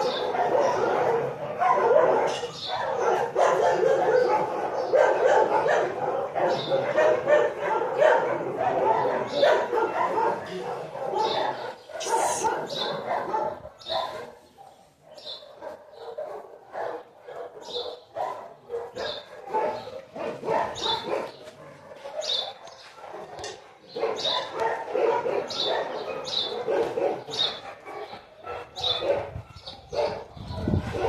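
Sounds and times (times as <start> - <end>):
dogs barking: 0.0 - 31.0.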